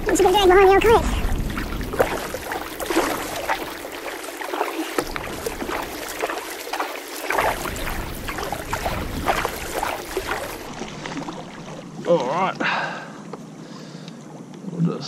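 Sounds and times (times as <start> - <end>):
paddle splashing: 0.0 - 13.0
paddle dipping into water: 0.0 - 13.4.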